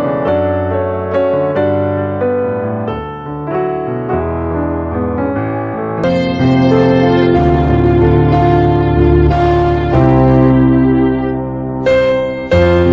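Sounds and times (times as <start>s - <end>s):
piano piece: 0.0s - 12.9s.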